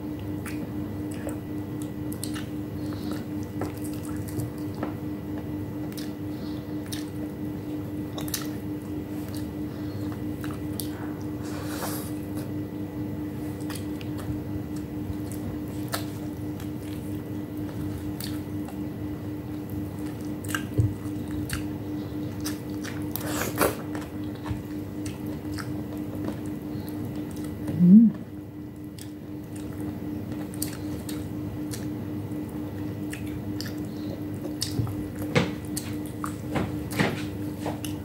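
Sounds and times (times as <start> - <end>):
steady low hum: 0.0 - 38.0
chewing with wet mouth clicks: 0.1 - 11.4, 13.4 - 27.8, 28.7 - 37.0, 37.8 - 38.0.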